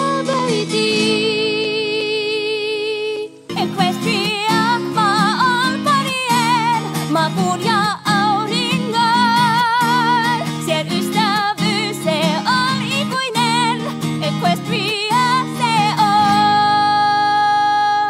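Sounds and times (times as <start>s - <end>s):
strummed acoustic guitar: 0.0s - 2.4s, 3.2s - 18.0s
woman singing a slow song: 0.0s - 18.0s.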